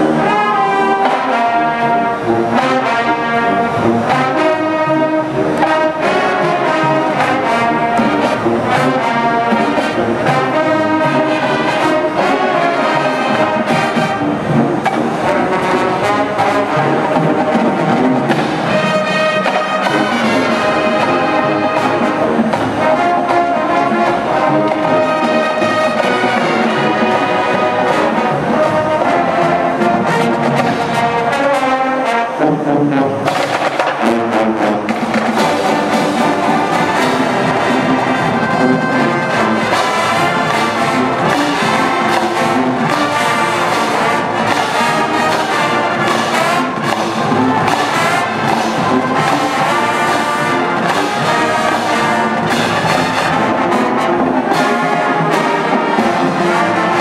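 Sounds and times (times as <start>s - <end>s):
brass band playing: 0.0s - 57.0s
snare and tenor drums: 0.0s - 57.0s.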